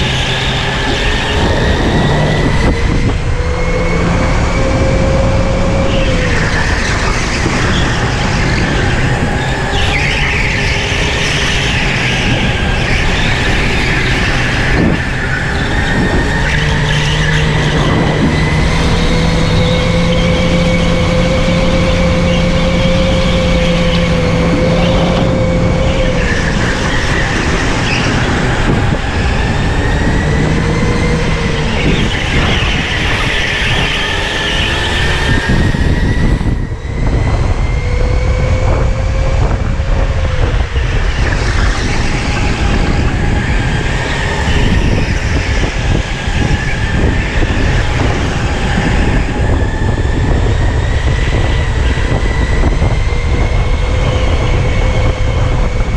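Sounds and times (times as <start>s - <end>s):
electric motor whine: 0.0s - 55.9s
tyre and wind noise: 0.0s - 55.9s.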